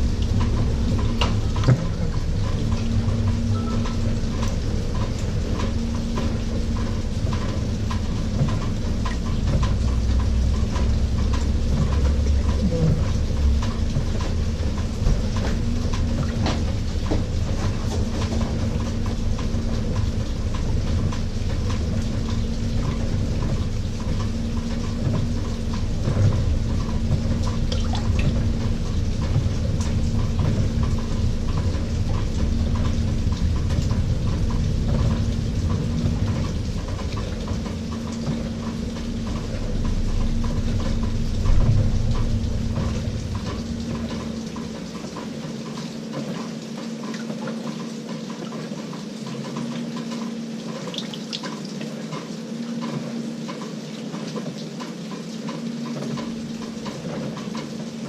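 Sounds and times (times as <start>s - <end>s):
water sloshing: 0.0s - 52.4s
clicks and knocks of churning load: 0.0s - 58.0s
washing machine motor hum: 0.0s - 58.0s.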